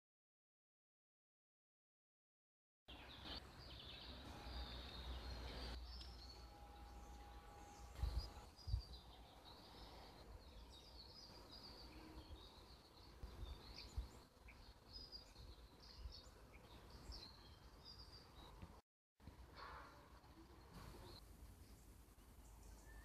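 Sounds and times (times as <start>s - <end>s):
small birds chirping: 2.9s - 18.8s, 20.4s - 23.0s.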